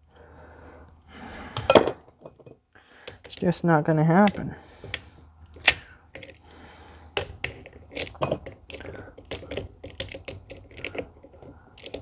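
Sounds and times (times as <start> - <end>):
hand tools clicking and tapping: 1.5 - 3.5, 4.1 - 12.0.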